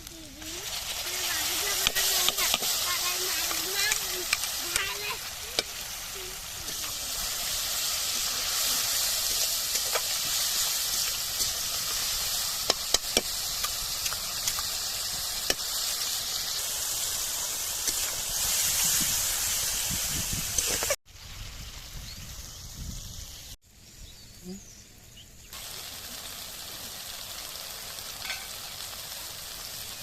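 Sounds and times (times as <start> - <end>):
food sizzling in hot oil: 0.0 - 24.2, 25.0 - 30.0.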